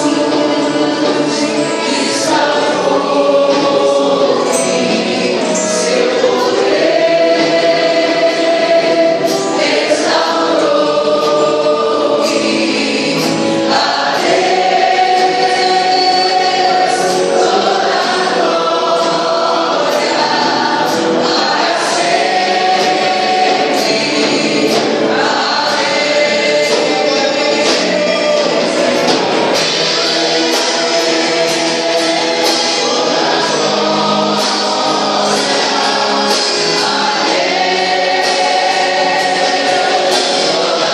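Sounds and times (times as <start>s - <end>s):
choir singing gospel: 0.0s - 40.9s.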